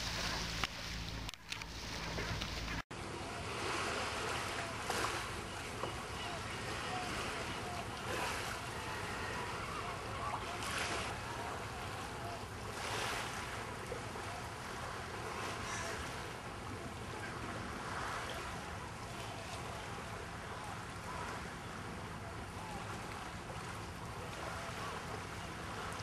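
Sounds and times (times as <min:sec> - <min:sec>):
sea waves washing against rocks: 0:00.0 - 0:26.0.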